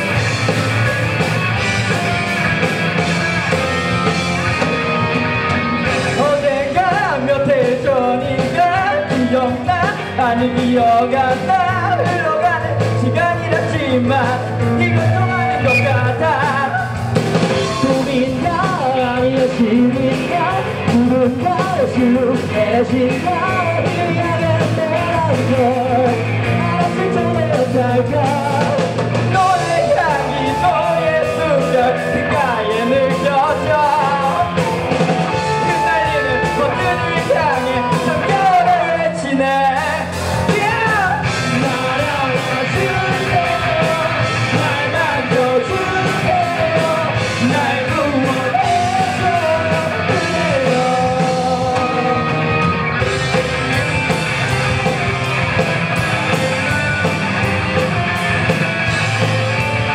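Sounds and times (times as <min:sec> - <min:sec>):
bass guitar: 0:00.0 - 0:59.9
drums: 0:00.0 - 0:59.9
electric guitars: 0:00.0 - 0:59.9
person singing: 0:03.5 - 0:59.9.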